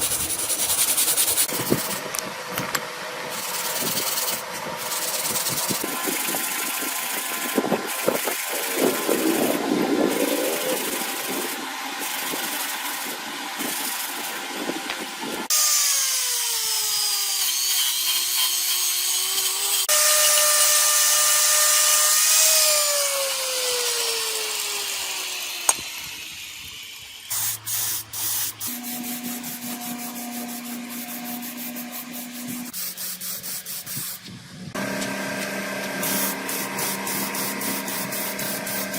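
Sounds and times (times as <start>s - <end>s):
power tool on metal: 0.0s - 38.9s
motor winding down whine: 1.4s - 17.7s, 18.5s - 32.7s, 34.6s - 38.9s.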